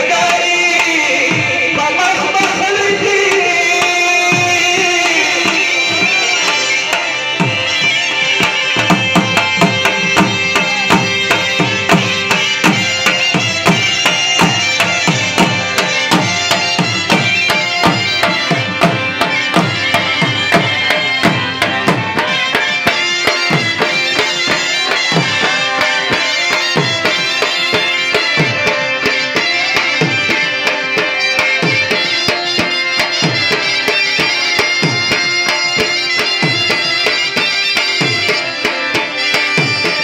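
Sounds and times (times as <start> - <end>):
drum beaten steadily: 0.0 - 40.0.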